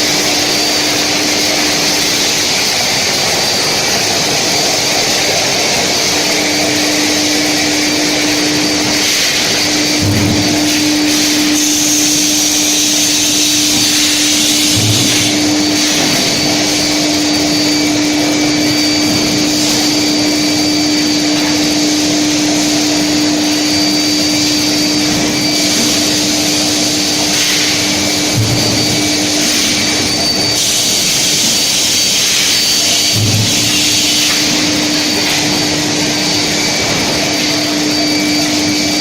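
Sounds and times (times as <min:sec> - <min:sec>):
high-pitched whine: 0:00.0 - 0:39.0
industrial furnace hum: 0:00.0 - 0:39.0.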